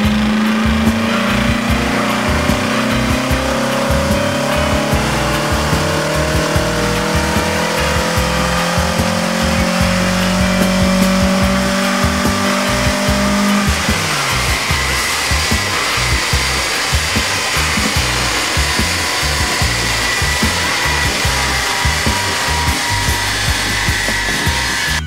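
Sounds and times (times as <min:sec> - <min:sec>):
car engine running hard: 0:00.0 - 0:25.0.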